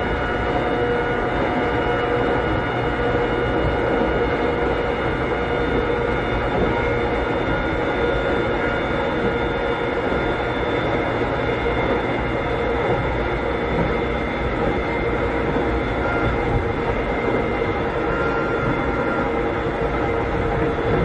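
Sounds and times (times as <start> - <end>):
train running gear whining: 0.0 - 21.0
train wheels rumbling on track: 0.0 - 21.0.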